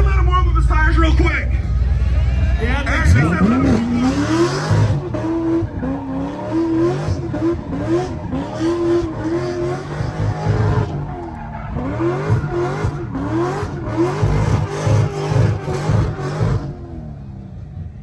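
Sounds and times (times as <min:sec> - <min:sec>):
tyres skidding: 0:01.0 - 0:18.0
car engine revving: 0:01.6 - 0:18.0.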